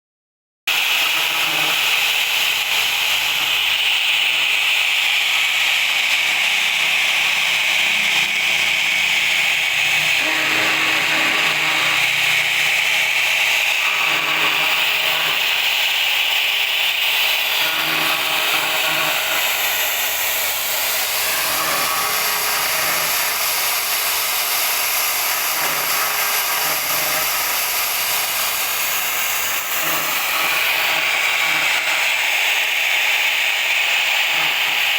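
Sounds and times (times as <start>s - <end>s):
router spindle carving stone: 0.7s - 34.9s.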